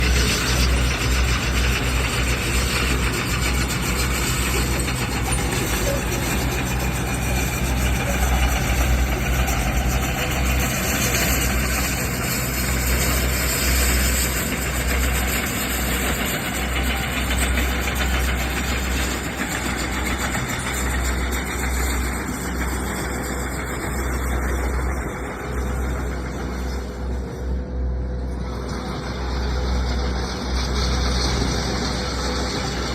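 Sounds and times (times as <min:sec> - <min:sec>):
heavy machinery engine rumbling: 0:00.0 - 0:32.9.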